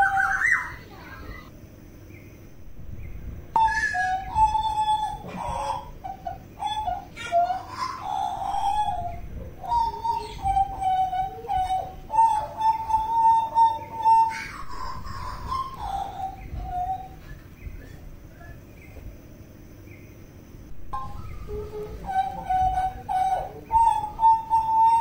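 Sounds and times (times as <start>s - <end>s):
bird singing fluted whistles: 0.0s - 0.8s, 3.0s - 7.6s, 8.3s - 19.0s, 21.0s - 25.0s.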